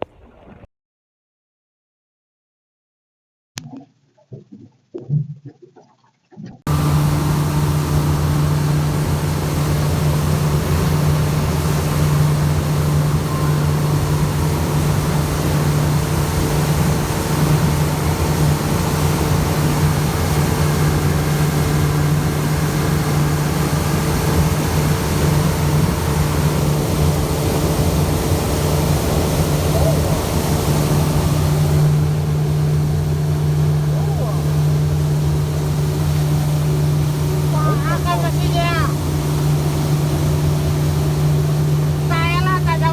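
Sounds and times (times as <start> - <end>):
engine running steadily: 6.7 - 42.9.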